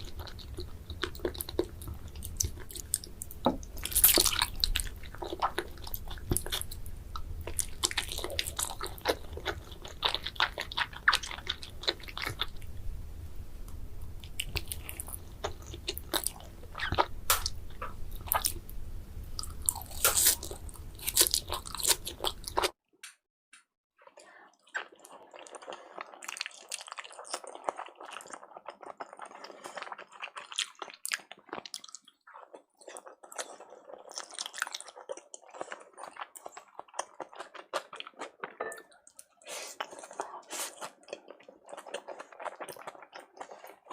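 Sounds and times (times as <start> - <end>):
biting and chewing food: 0.0 - 12.7, 14.2 - 18.6, 19.4 - 22.8, 24.6 - 43.9.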